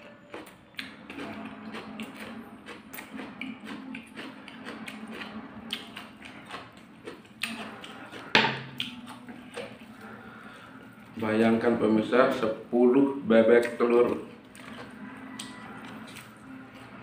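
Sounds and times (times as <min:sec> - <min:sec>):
chewing and lip smacks: 0:00.0 - 0:10.6, 0:13.6 - 0:17.0.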